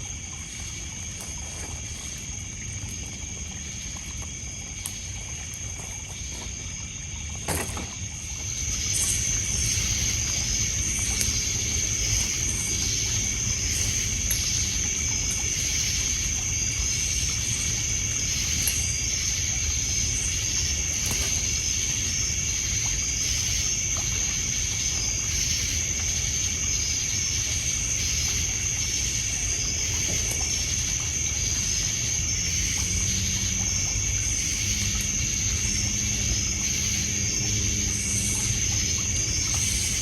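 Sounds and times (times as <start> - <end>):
campfire crackles: 0.0 - 40.0
crickets chirring: 0.0 - 40.0
low steady hum: 0.0 - 40.0
water lapping: 0.0 - 40.0.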